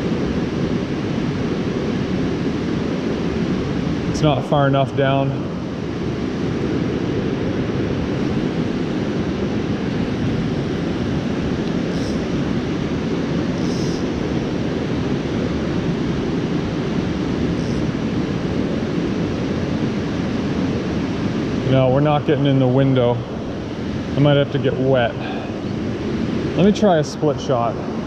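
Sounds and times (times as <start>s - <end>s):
river water over rapids: 0.0s - 28.0s.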